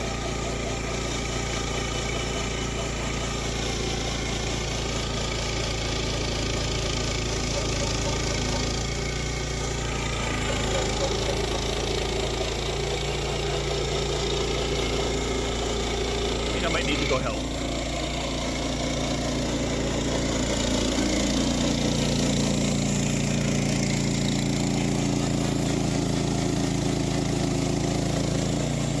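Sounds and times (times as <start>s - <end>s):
small gasoline engine running: 0.0s - 29.0s.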